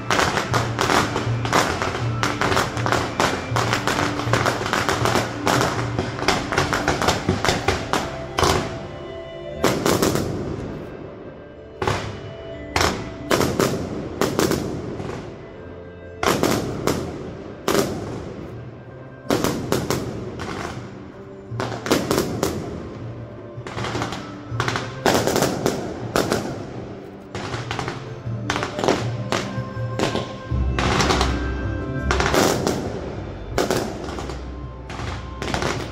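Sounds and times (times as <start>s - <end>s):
fireworks bangs: 0.0s - 11.0s, 11.8s - 15.5s, 19.2s - 35.9s
background music: 0.0s - 35.9s.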